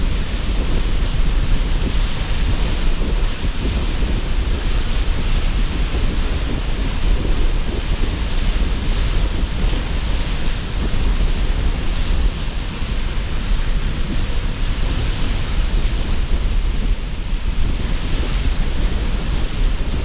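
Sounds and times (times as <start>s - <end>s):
sea surf washing in: 0.0s - 20.0s
strong wind: 0.0s - 20.0s.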